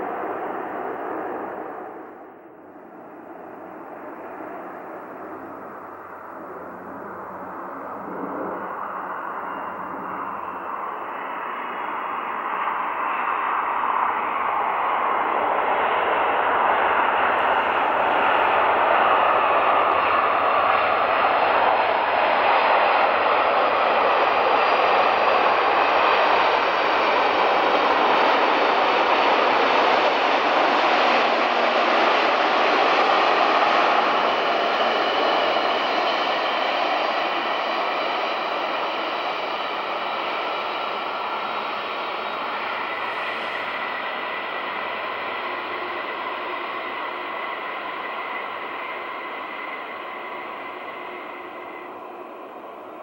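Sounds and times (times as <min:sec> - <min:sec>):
jet airliner engines roaring: 0:00.0 - 0:53.0.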